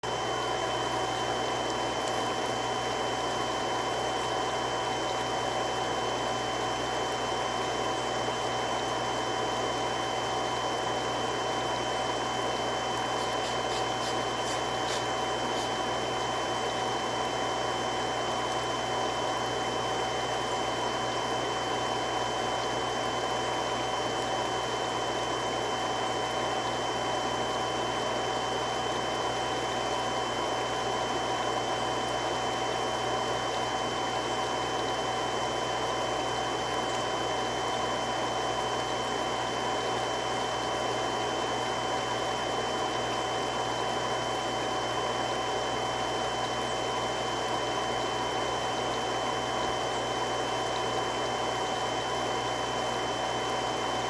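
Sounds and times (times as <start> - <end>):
water pump running: 0.0 - 54.0.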